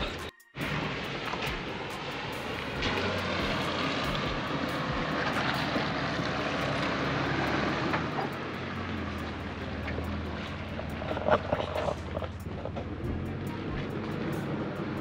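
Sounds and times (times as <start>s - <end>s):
suv engine running: 0.0s - 15.0s.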